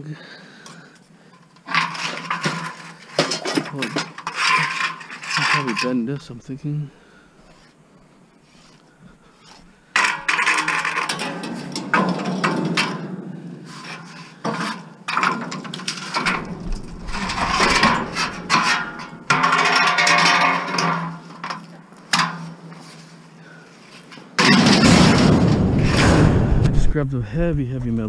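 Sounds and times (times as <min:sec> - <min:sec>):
scrap metal clanking: 0:00.6 - 0:06.6, 0:09.4 - 0:26.8
metal scraping and rattling: 0:01.4 - 0:06.6, 0:09.4 - 0:27.2.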